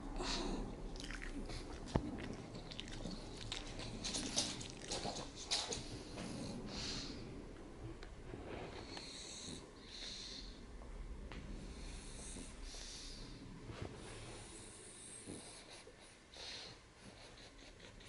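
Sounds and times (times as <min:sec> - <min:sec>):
dog breathing: 0:00.0 - 0:07.6, 0:08.3 - 0:10.8, 0:11.5 - 0:18.0.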